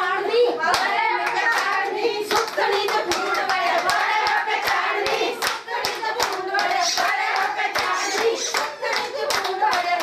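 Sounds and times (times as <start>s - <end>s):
women clapping in a steady beat: 0.0s - 10.0s
women singing: 0.0s - 10.0s.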